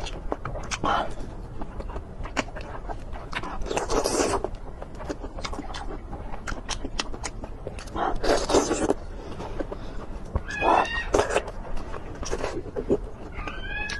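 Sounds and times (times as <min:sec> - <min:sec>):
chewing clicks: 0:00.0 - 0:13.9
noisy eating bursts: 0:00.0 - 0:13.9.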